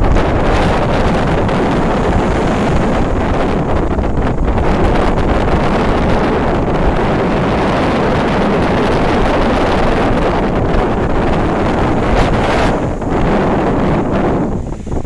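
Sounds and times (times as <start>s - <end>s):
sea surf breaking against wall: 0.0s - 15.0s
wind buffeting microphone: 0.0s - 15.0s.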